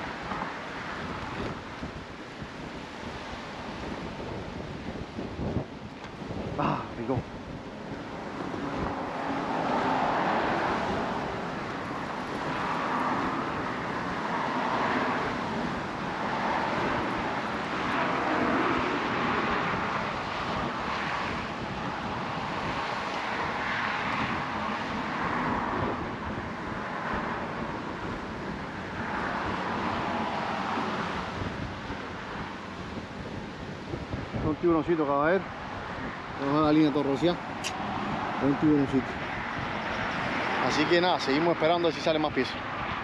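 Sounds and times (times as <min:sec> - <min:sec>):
wind on microphone: 0:00.0 - 0:43.0
car tyres rushing past: 0:07.8 - 0:33.2, 0:33.9 - 0:43.0.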